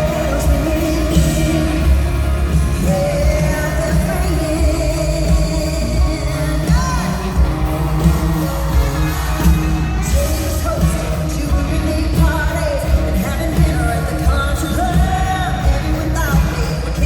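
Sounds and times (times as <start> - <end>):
live band with bass and drums: 0.0 - 17.0
woman singing: 0.0 - 17.0.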